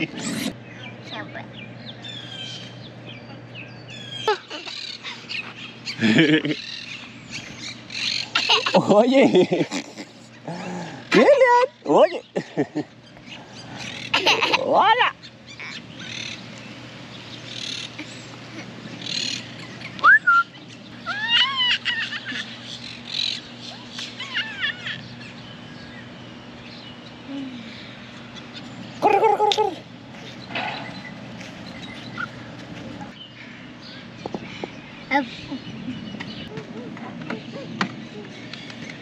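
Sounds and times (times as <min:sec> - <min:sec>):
birds chirping: 0:00.0 - 0:39.0
steady low hum: 0:00.0 - 0:39.0.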